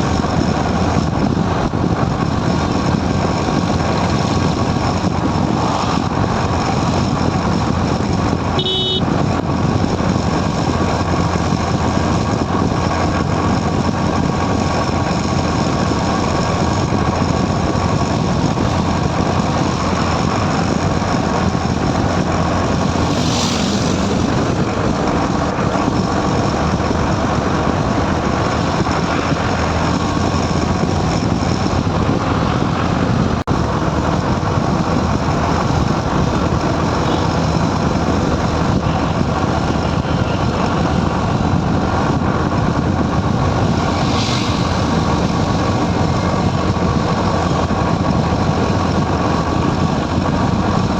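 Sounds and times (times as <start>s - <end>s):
motorcycle engine and road noise: 0.0s - 50.9s.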